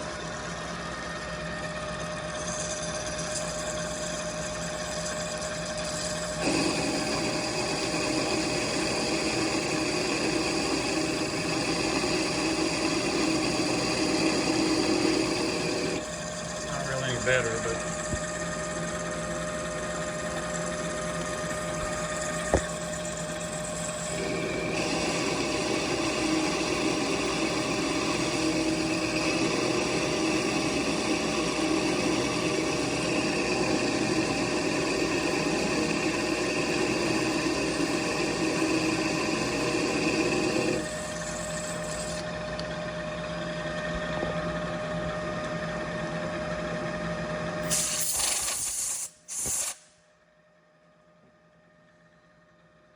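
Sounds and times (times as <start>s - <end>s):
machine tool running: 0.0s - 43.4s.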